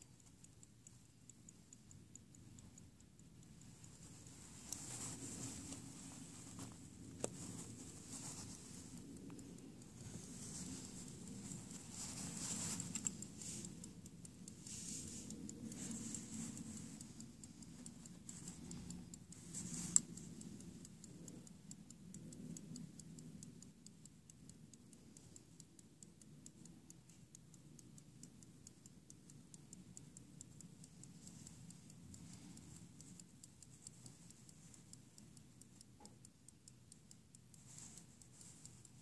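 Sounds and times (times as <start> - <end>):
pocket watch ticking: 0.0 - 39.0.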